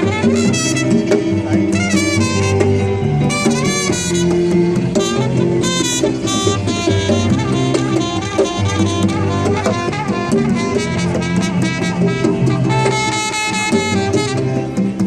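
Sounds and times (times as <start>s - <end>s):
bass: 0.0s - 15.0s
drums: 0.0s - 15.0s
sustained melody lines: 0.0s - 15.0s.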